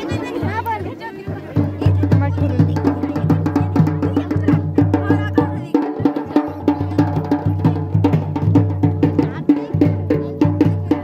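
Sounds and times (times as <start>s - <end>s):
dhol drum beating: 0.0s - 11.0s.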